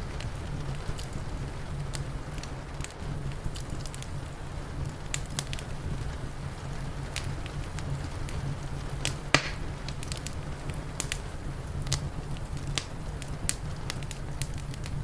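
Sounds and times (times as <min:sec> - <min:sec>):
steady low rumble: 0:00.0 - 0:15.0
wood fire crackling and popping: 0:00.0 - 0:15.0.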